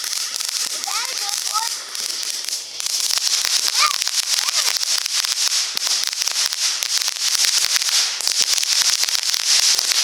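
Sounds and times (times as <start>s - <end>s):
firework hissing and crackling: 0.0s - 10.0s.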